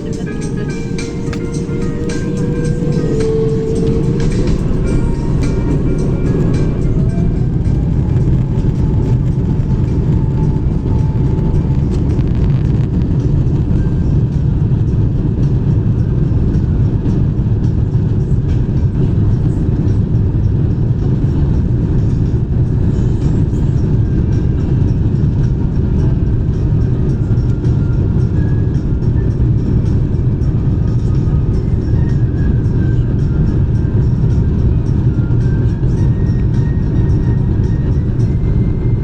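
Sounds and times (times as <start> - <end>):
jet engine cabin rumble: 0.0 - 39.0.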